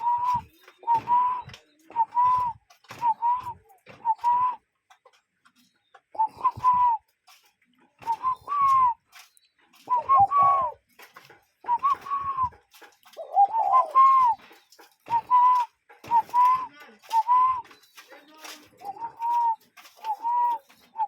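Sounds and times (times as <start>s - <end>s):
cuckoo calling: 0.0s - 4.6s, 5.6s - 7.4s, 8.0s - 21.0s.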